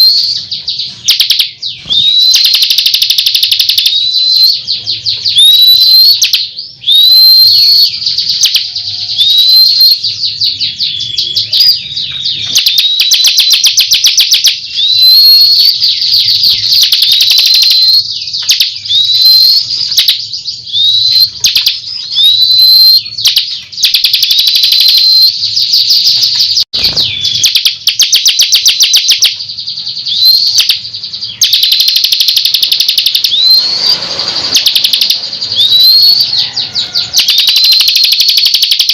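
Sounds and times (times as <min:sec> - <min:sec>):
bird whistling and chattering: 0:00.0 - 0:38.9.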